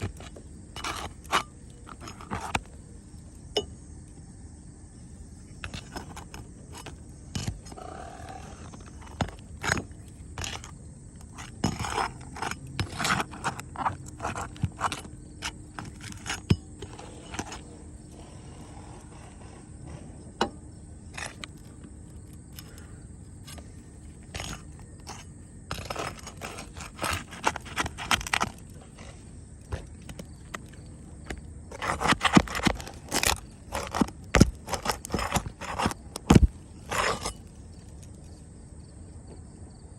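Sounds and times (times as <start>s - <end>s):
roof repair scraping and knocking: 0.0s - 2.9s, 5.5s - 38.2s.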